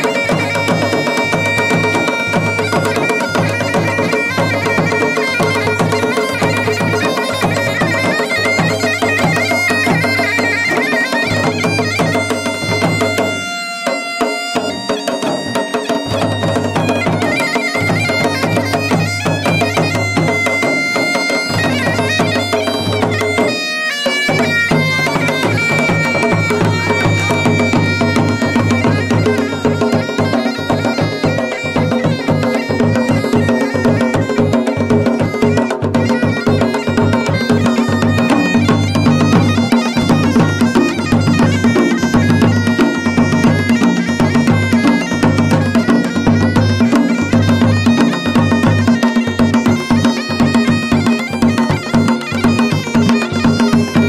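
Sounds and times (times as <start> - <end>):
bagpipe drone: 0.0 - 54.0
bagpipe folk melody: 0.0 - 54.0.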